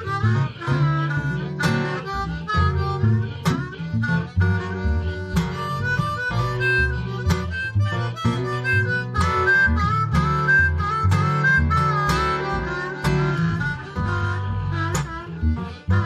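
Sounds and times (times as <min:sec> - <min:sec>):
acoustic guitar: 0:00.0 - 0:16.0
blues harmonica: 0:00.0 - 0:16.0.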